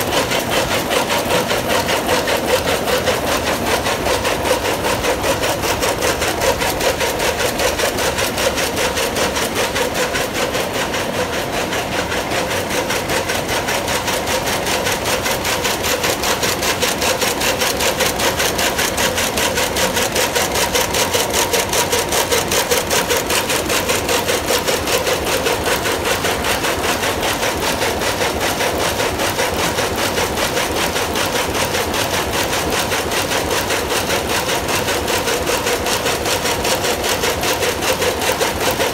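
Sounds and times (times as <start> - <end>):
loom mechanical clatter: 0.0 - 38.9.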